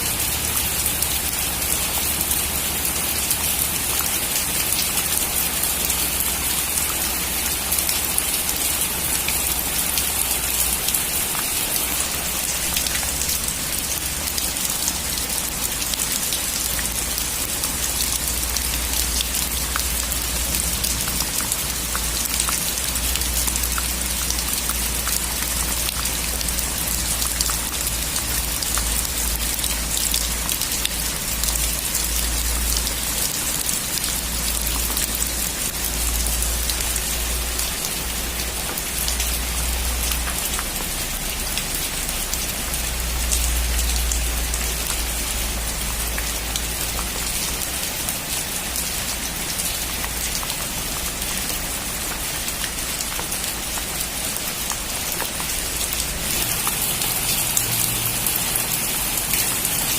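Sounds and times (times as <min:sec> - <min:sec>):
heavy rain on metal roof: 0:00.0 - 0:59.9.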